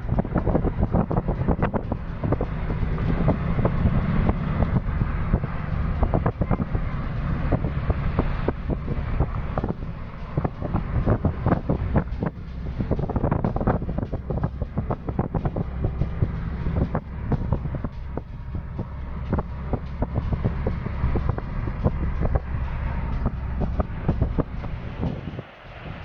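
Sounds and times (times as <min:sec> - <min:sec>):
strong wind buffeting microphone: 0:00.0 - 0:26.0.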